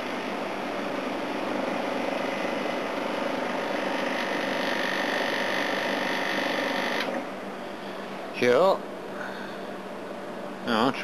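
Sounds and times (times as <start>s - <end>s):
air conditioner humming: 0.0s - 11.0s
steady whine: 0.0s - 11.0s.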